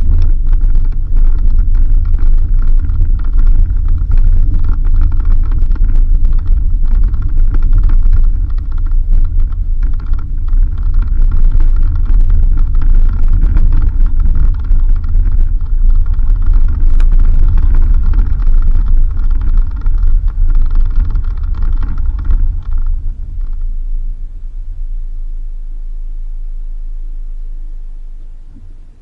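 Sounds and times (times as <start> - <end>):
car driving on dirt road: 0.0 - 29.0.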